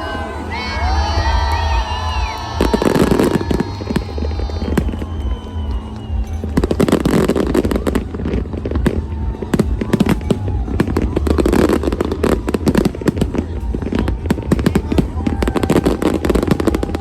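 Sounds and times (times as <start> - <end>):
fireworks bangs and crackles: 0.1 - 17.0.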